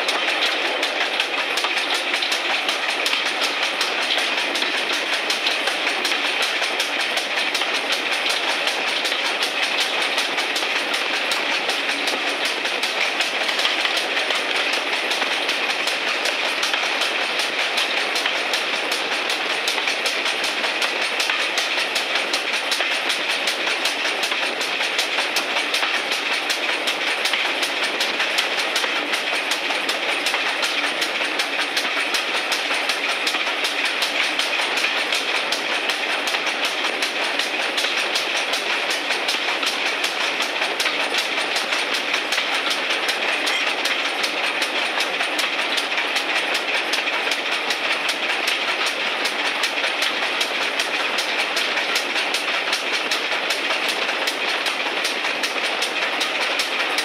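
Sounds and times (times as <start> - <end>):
steam locomotive beat: 0.0 - 57.0
wheels running on rails: 0.0 - 57.0.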